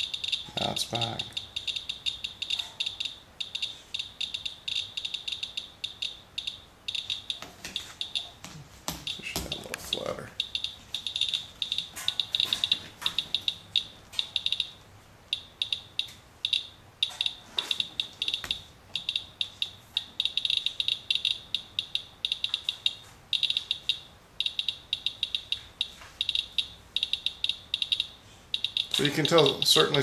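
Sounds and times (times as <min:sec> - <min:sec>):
geiger counter chirping: 0:00.0 - 0:08.4, 0:09.0 - 0:30.0.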